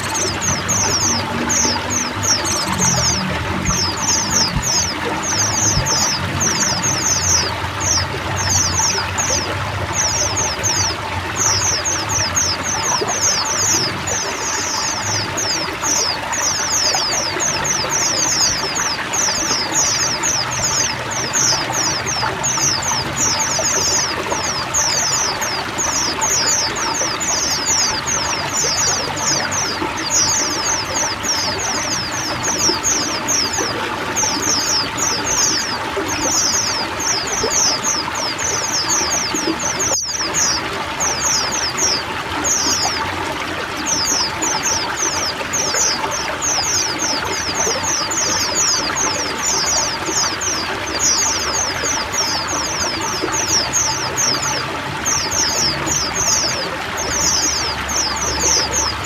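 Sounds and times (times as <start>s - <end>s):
birds chirping in chorus: 0.0s - 59.0s
running water trickling: 0.0s - 59.0s.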